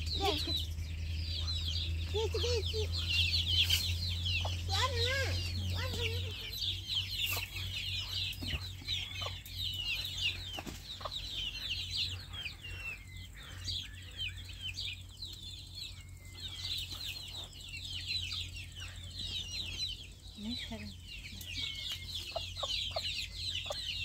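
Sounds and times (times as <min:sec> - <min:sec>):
chicks peeping and chirping: 0:00.0 - 0:24.0
steady low hum: 0:00.0 - 0:24.0.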